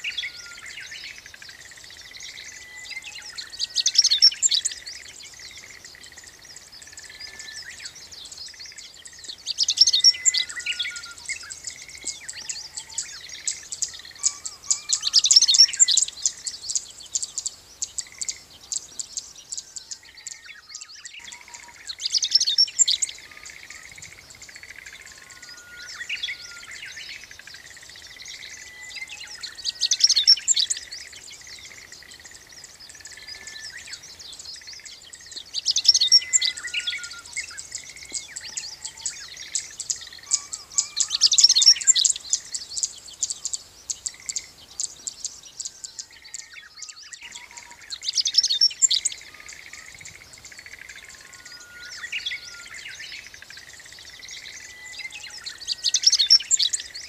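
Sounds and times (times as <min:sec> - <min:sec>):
birds chirping softly: 0:00.0 - 0:57.0
songbird twittering phrase: 0:00.0 - 0:57.0.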